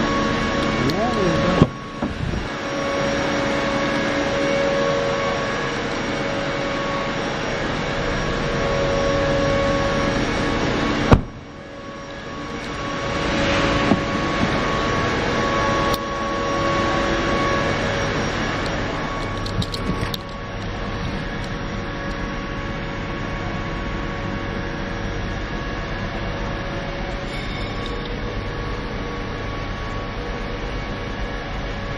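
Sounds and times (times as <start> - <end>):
mechanical drone: 0.0 - 31.9.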